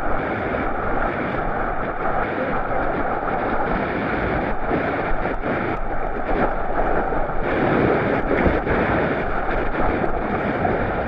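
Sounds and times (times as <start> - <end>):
water splashes: 0.0 - 11.0.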